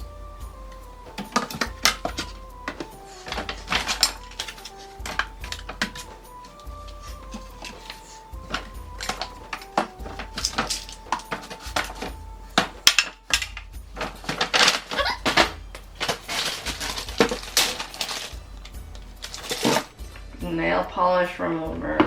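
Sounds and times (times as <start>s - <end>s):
bottles clattering on shelves: 0.0s - 20.0s
background music with bass: 0.0s - 22.0s.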